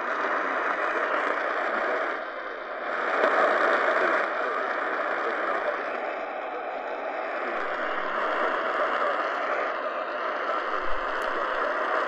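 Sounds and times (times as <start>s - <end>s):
radio static and hiss: 0.0s - 12.0s
weak distant am radio station: 0.2s - 12.0s.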